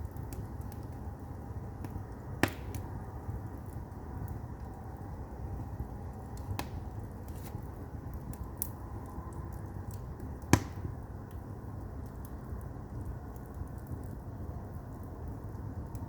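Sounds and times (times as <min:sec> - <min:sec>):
fire rumbling: 0:00.0 - 0:16.0
logs crackling and popping: 0:00.0 - 0:16.0.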